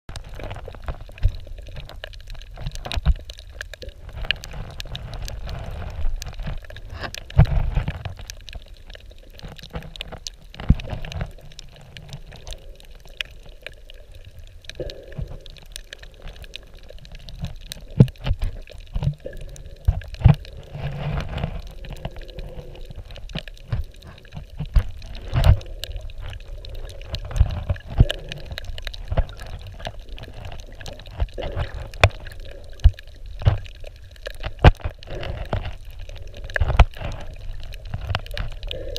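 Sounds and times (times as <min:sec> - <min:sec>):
underwater sloshing rumble: 0:00.1 - 0:38.9.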